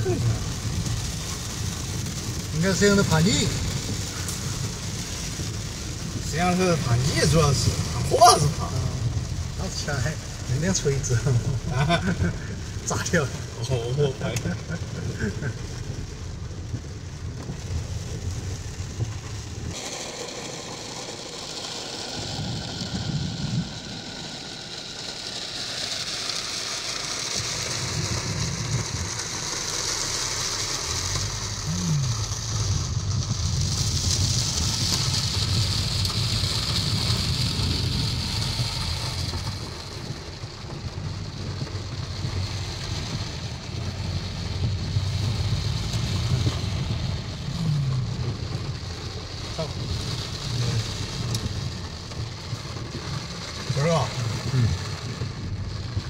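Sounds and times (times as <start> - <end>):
car engine hum: 0.0 - 56.0
heavy rain hissing: 0.0 - 56.0
wet road noise: 0.0 - 56.0.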